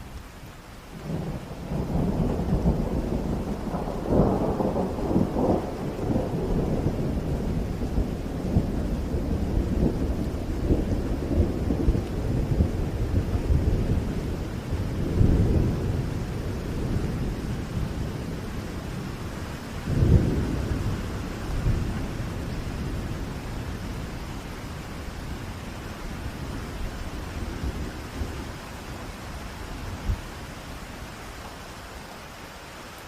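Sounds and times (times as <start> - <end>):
heavy rain: 0.0 - 33.0
thunder rumbling: 1.0 - 30.3.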